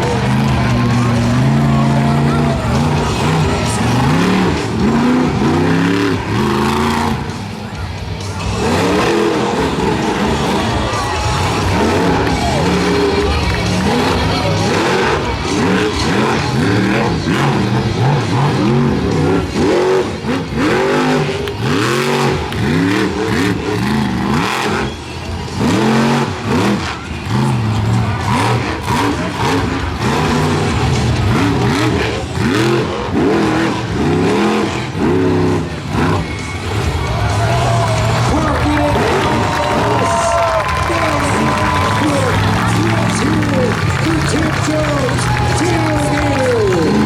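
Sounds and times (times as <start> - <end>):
truck engine revving: 0.0 - 47.0.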